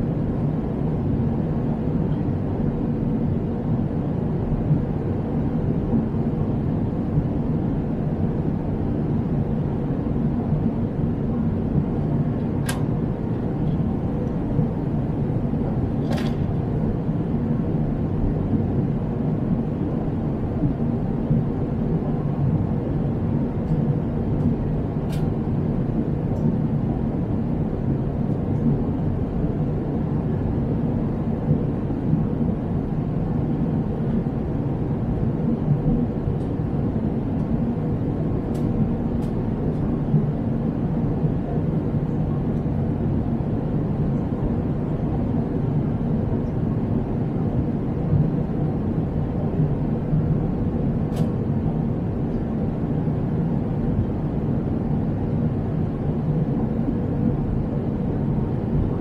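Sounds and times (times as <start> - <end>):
faint steady hum: 0.0 - 59.0
jet engine and airflow rush: 0.0 - 59.0.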